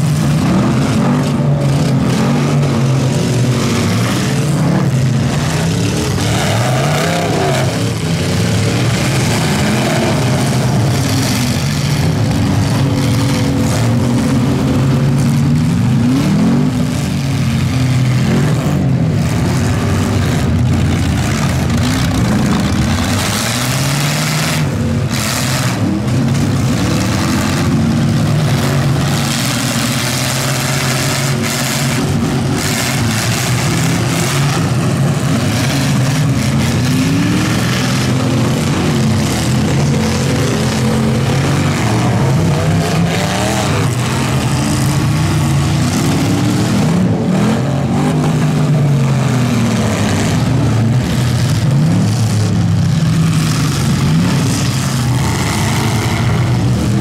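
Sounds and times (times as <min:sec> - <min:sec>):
truck engines revving: 0:00.0 - 0:57.0
trucks crashing together: 0:00.0 - 0:57.0.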